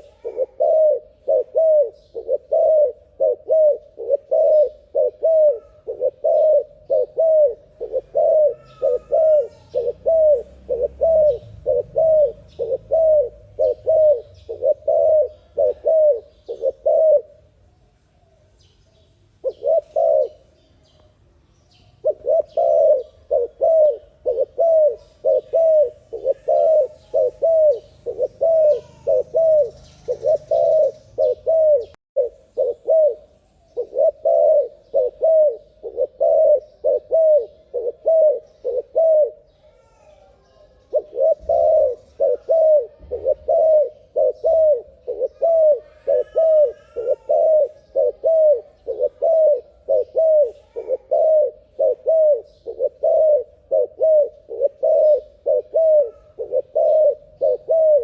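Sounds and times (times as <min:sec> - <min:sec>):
dove cooing: 0:00.0 - 0:17.6, 0:19.4 - 0:20.5, 0:22.0 - 0:58.0.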